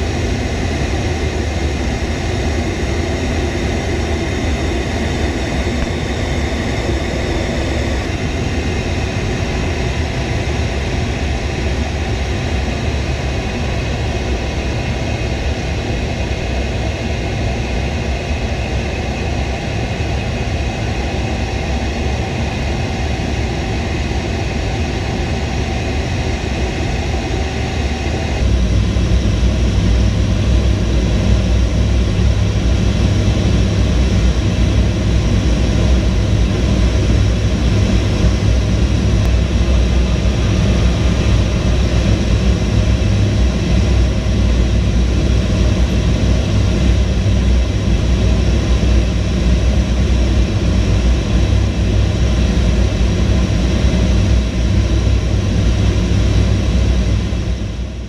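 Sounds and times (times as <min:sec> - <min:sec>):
high engine whine: 0:00.0 - 0:58.0
jet engines rumbling: 0:00.0 - 0:58.0.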